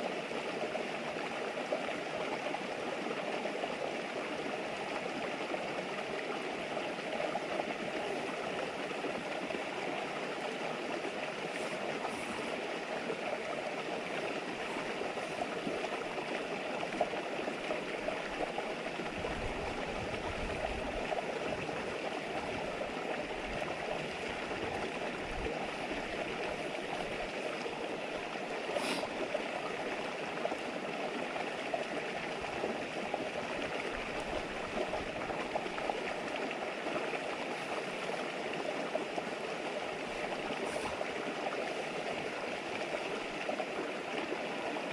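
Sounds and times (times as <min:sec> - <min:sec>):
river babbling: 0:00.0 - 0:44.9.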